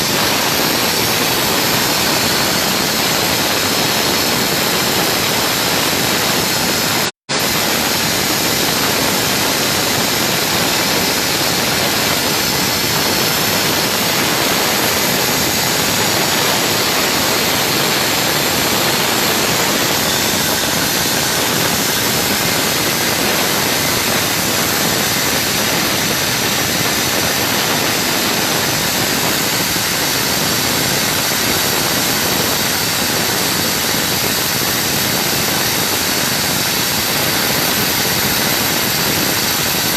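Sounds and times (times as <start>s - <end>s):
oxygen machine rushing noise: 0.0s - 39.9s.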